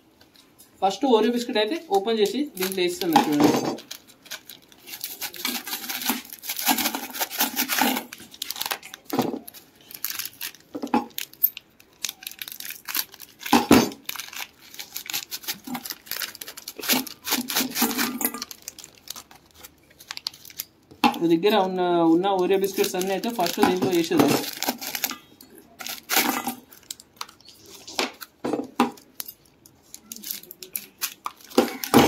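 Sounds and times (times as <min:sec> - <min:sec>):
plastic wrappers crinkling: 0:01.2 - 0:32.0
scissors cutting plastic: 0:02.2 - 0:20.8, 0:22.4 - 0:28.3, 0:28.9 - 0:32.0.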